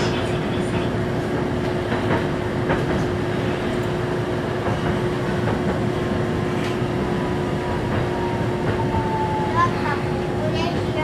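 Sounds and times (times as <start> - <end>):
tram rumble: 0.0 - 11.0.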